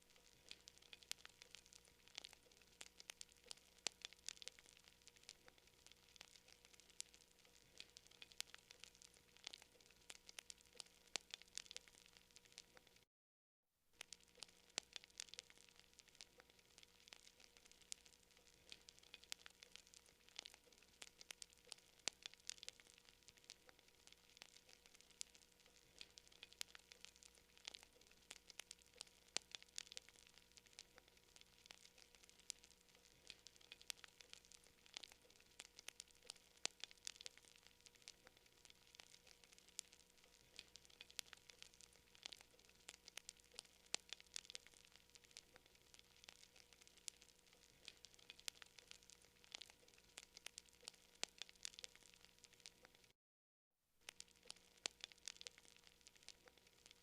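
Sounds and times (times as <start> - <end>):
wood fire crackling and popping: 0.0 - 13.1, 14.0 - 53.2, 54.0 - 57.0.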